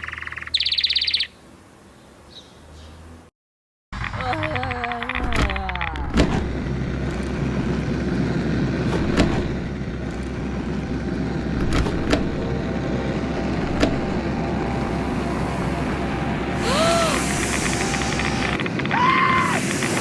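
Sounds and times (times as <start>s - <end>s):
low mechanical rumble: 4.0s - 20.0s.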